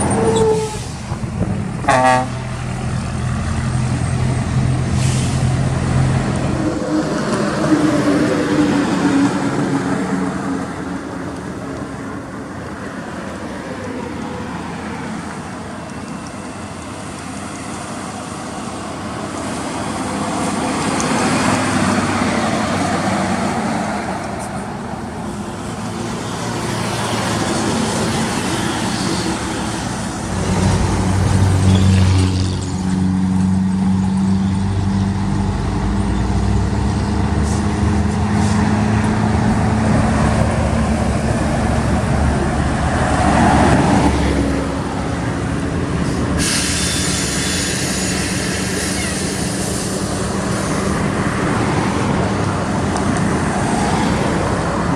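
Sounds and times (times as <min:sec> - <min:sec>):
heavy vehicle engine droning: 0:00.0 - 0:54.9
road vehicles passing: 0:00.0 - 0:54.9.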